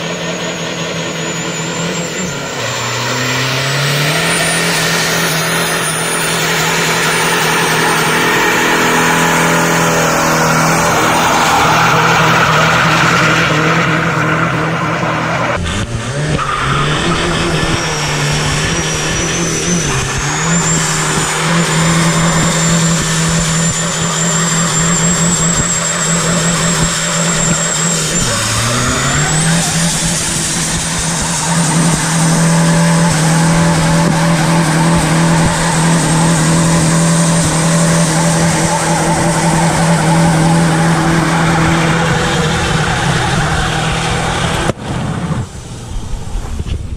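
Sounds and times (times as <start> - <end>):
turbo whistle: 0.0 - 44.3
diesel engine revving: 0.0 - 46.9
tyres squealing: 0.1 - 44.7.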